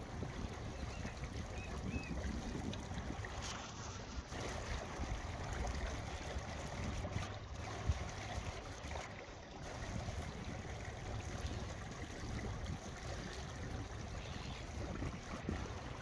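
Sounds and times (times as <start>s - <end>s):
small waves lapping: 0.0s - 16.0s
wind rumbling on microphone: 0.0s - 16.0s.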